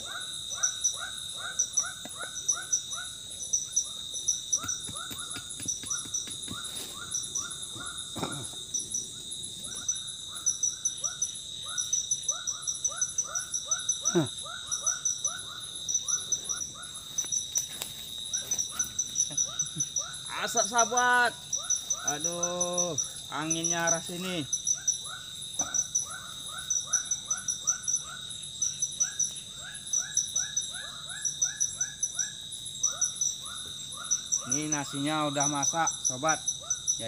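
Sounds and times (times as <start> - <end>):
insects buzzing and chirping: 0.0 - 37.0.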